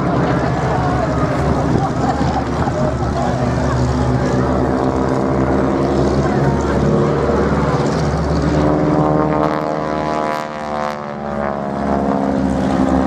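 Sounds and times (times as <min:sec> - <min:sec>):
biplane engines droning: 0:00.0 - 0:13.0.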